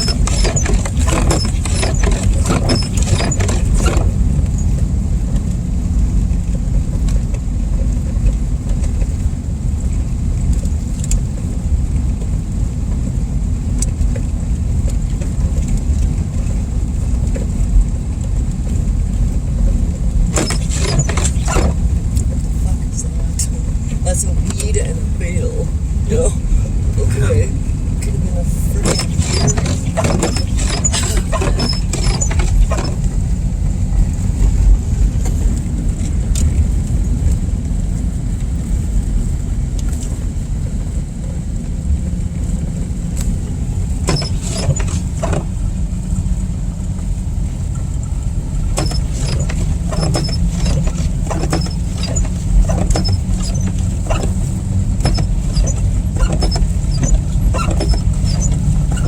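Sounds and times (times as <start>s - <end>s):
tyres and engine rumble: 0.0s - 59.0s.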